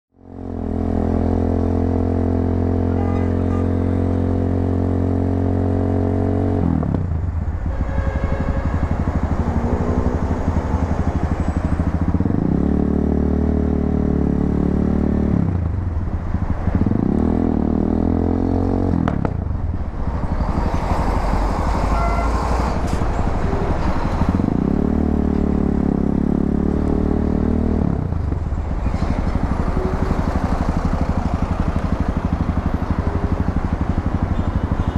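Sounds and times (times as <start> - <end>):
motorcycle engine idling and accelerating: 0.1 - 34.9.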